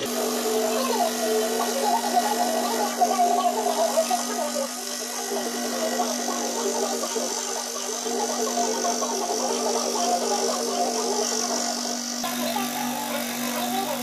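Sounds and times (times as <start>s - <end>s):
scroll saw cutting board: 0.0s - 14.0s.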